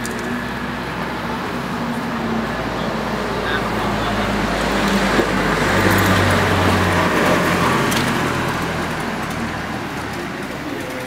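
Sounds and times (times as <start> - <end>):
vehicle engine hum passing: 0.0 - 11.0.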